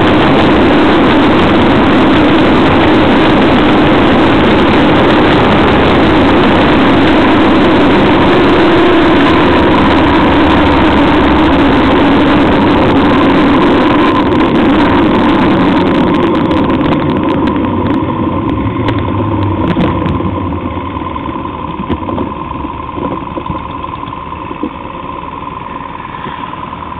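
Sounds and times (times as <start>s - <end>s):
wind rushing over microphone: 0.0s - 24.8s
vehicle engine running: 0.0s - 26.9s.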